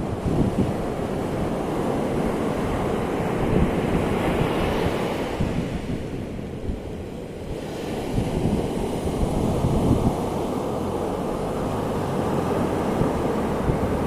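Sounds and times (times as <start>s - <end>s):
ocean waves breaking on shore: 0.0s - 14.0s
wind rumble on microphone: 0.0s - 14.0s.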